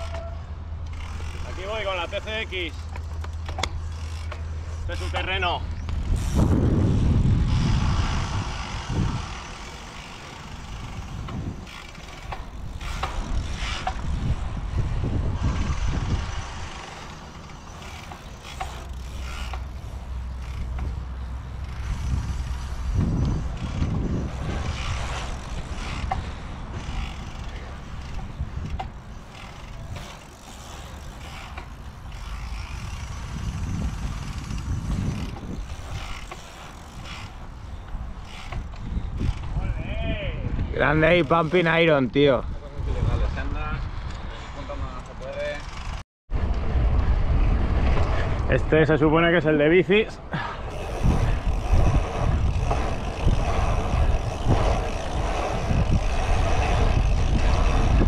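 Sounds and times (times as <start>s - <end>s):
bike tyres rolling: 0.0s - 58.0s
wind buffeting microphone: 0.0s - 58.0s.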